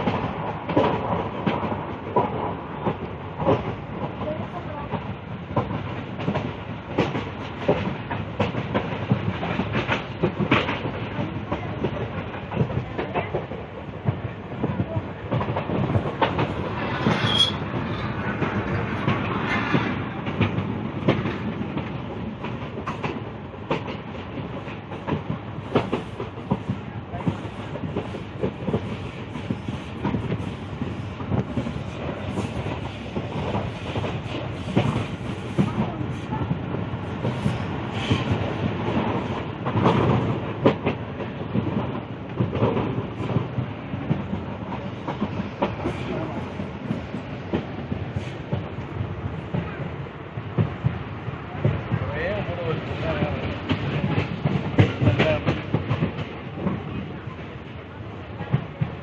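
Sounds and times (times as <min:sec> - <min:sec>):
rail joint clicks and clatter: 0:00.0 - 0:59.0
train wheels rumbling on rails: 0:00.0 - 0:59.0.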